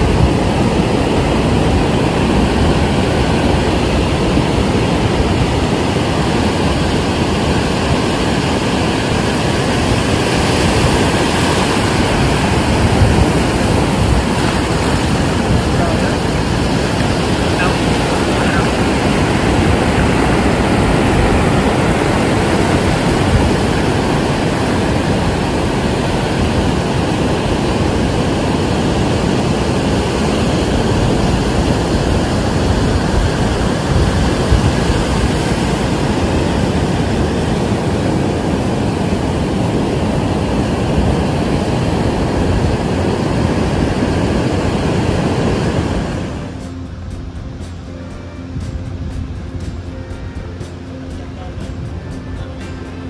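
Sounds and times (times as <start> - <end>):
ocean surf breaking on beach: 0.0 - 53.0.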